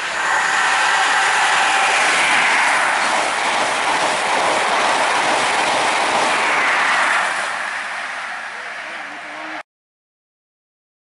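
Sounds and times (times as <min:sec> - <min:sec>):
train passing at speed: 0:00.0 - 0:09.6.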